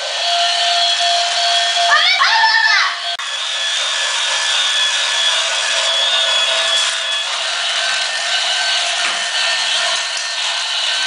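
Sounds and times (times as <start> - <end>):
toy train motors whirring: 1.7 - 11.0.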